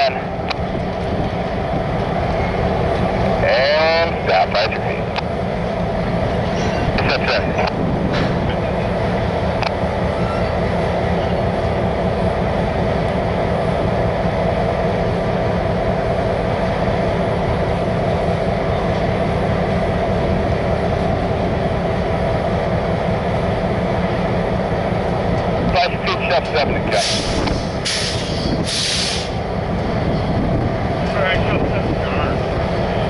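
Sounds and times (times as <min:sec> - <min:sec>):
freight train rumbling: 0:00.0 - 0:33.0.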